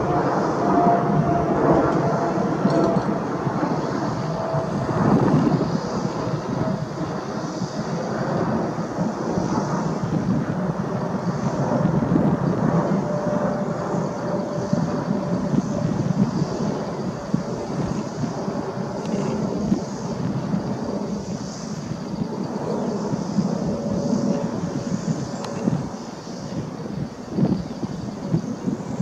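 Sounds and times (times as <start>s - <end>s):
jet engines rumbling overhead: 0.0s - 29.0s.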